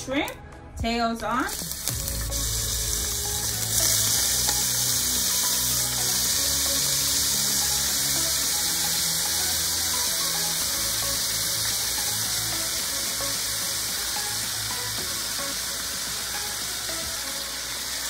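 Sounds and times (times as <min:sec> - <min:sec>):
shrimp sizzling in oil: 0:01.5 - 0:18.0.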